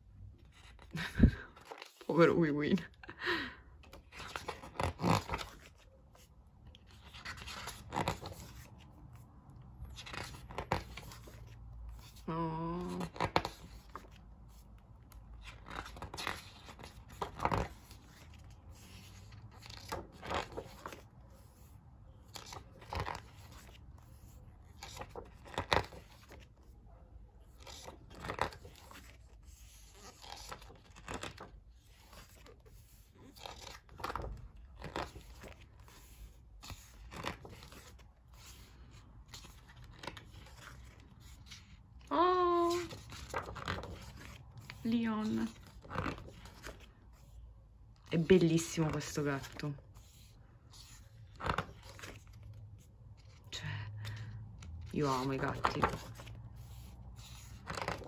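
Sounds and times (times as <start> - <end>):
book pages turning: 0.1 - 2.9, 3.8 - 26.8, 27.4 - 58.0.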